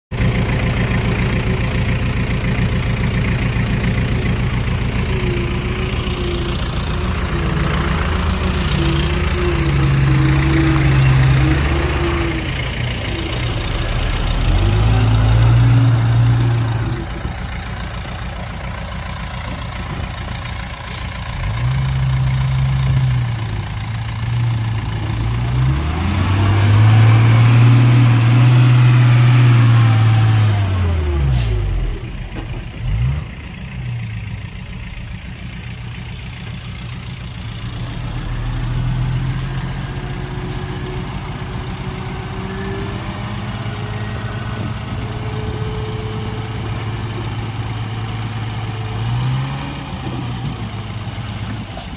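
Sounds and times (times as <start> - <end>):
heavy diesel engines revving: 0.1 - 51.9.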